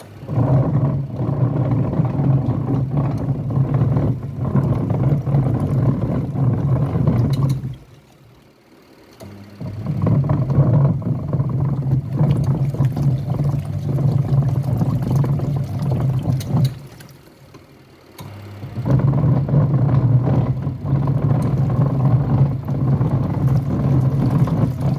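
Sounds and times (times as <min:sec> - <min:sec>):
washing machine motor rumbling: 0:00.0 - 0:24.9.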